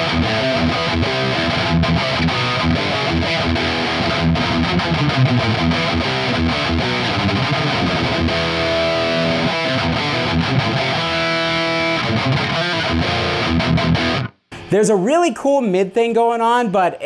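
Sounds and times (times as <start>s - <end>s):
distorted electric guitar riff: 0.0s - 14.9s.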